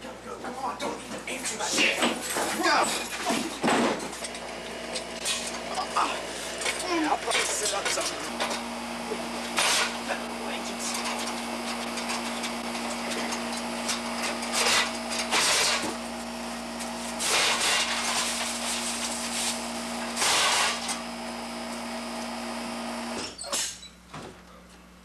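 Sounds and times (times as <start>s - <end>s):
air conditioner hum: 0.0s - 25.0s.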